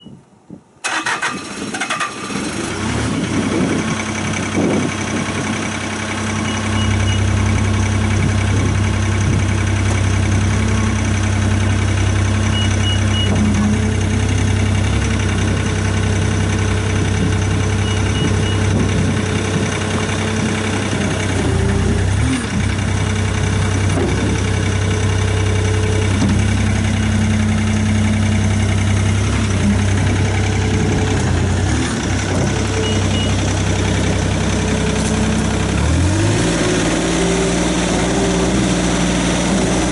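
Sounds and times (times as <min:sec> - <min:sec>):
diesel engine idling: 0:00.8 - 0:39.9.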